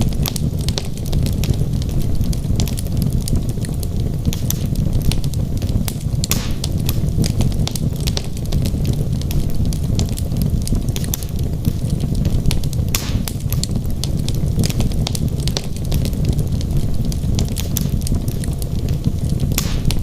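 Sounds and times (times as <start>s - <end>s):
fire crackling and popping: 0.0s - 20.0s
low rumble of fire: 0.0s - 20.0s.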